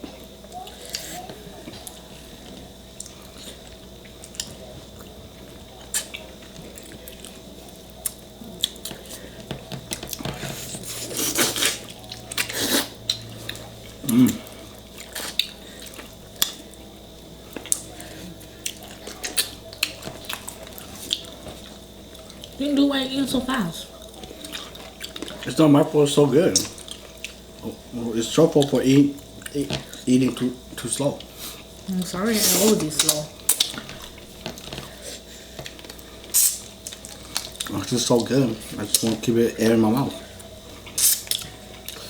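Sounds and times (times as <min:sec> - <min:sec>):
wet chewing: 0:00.6 - 0:22.6, 0:23.9 - 0:25.5, 0:26.5 - 0:27.7, 0:31.2 - 0:39.2, 0:40.0 - 0:42.0.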